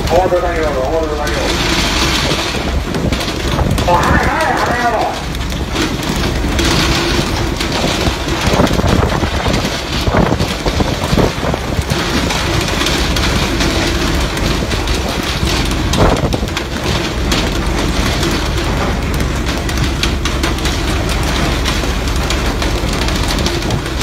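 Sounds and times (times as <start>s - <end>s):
boat engine rumble: 0.0s - 24.0s
water spraying and washing: 0.0s - 24.0s.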